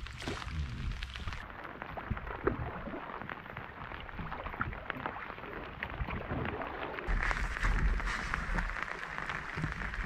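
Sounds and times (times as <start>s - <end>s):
rain falling on water and boat: 0.0s - 10.0s.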